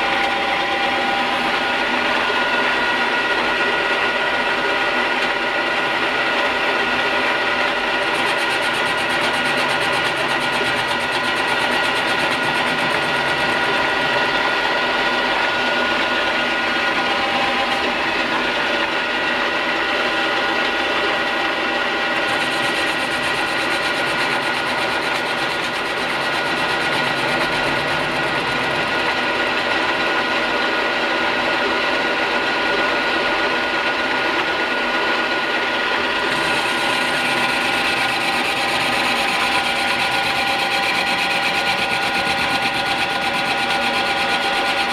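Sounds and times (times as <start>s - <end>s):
lathe whining and rattling: 0.0s - 44.9s.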